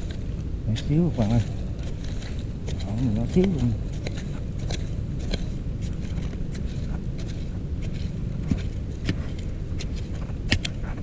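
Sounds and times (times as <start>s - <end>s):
digging in soil: 0.0s - 11.0s
steady low rumble: 0.0s - 11.0s.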